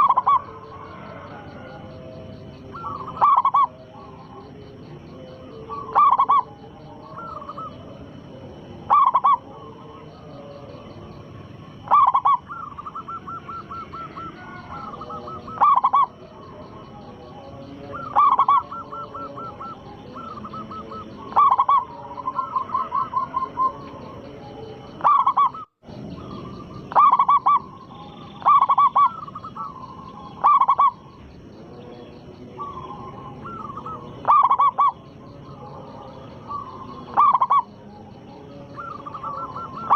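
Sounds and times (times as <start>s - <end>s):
dove cooing: 0.0s - 31.2s, 31.8s - 39.9s.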